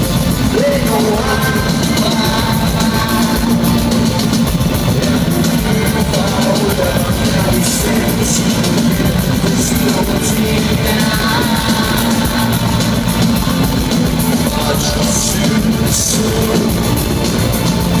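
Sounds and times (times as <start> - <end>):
drums with cymbal crashes: 0.0 - 18.0
electric guitars: 0.0 - 18.0
person singing: 0.1 - 18.0.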